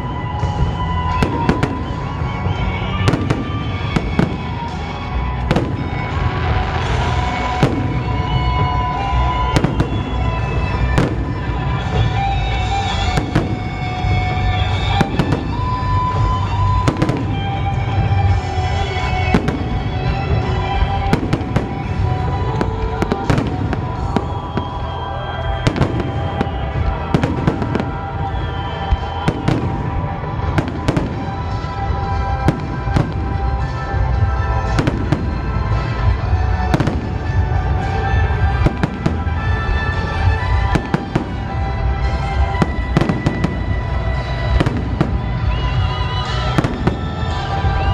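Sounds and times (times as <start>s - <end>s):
fireworks bursts and bangs: 0.0s - 47.9s
music playing: 0.0s - 47.9s.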